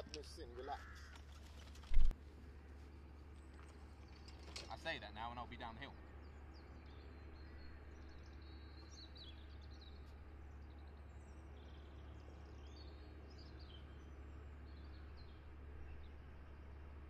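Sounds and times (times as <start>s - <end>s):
faint birds chirping: 0.0s - 17.0s
low outdoor rumble: 0.0s - 17.0s.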